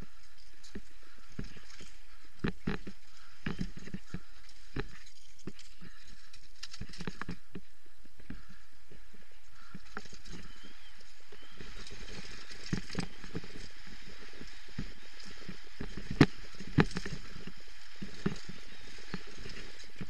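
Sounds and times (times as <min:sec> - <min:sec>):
bike rattling and knocking: 0:00.0 - 0:08.6, 0:11.2 - 0:20.0.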